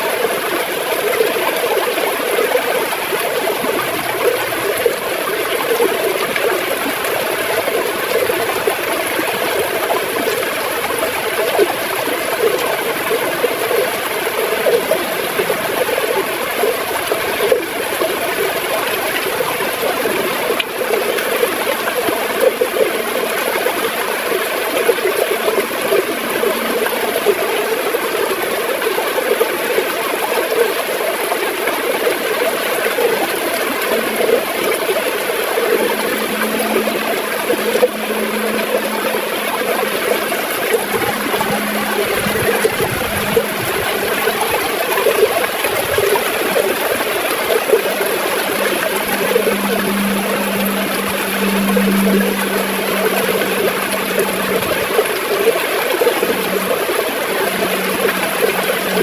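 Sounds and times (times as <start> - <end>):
river water gurgling over rocks: 0.0 - 59.0.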